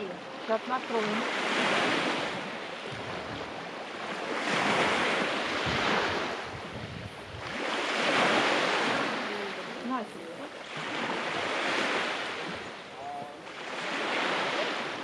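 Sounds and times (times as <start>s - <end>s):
sea surf washing on shore: 0.0s - 15.0s
wind rumbling on microphone: 0.0s - 15.0s.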